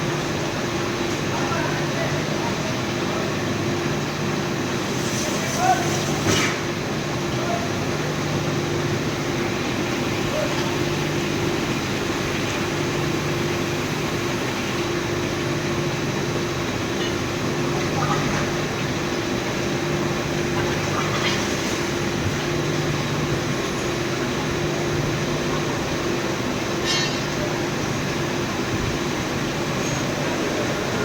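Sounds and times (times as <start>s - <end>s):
induction furnace hum: 0.0s - 31.0s.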